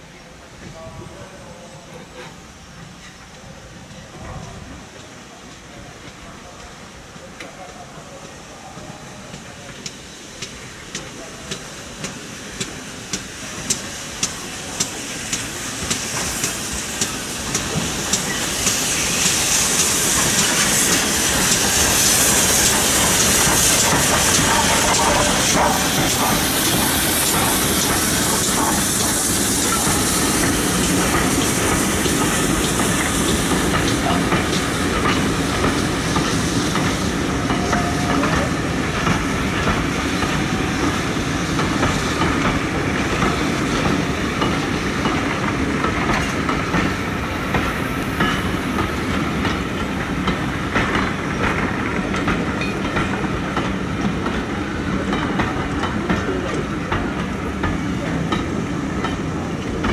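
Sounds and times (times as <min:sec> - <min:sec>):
locomotive steam hiss: 0:00.0 - 0:59.9
train wheels clicking over rail joints: 0:07.4 - 0:59.9.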